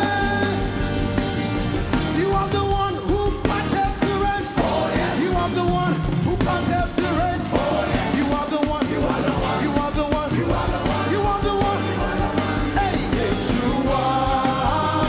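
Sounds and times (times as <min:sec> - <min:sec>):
voices singing: 0:00.0 - 0:00.8, 0:02.1 - 0:15.0
band playing upbeat song: 0:00.0 - 0:15.0.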